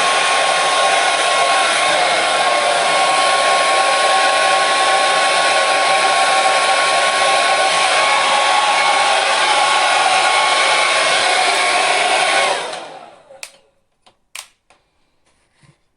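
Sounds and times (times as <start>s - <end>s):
hair dryer running: 0.0s - 13.7s.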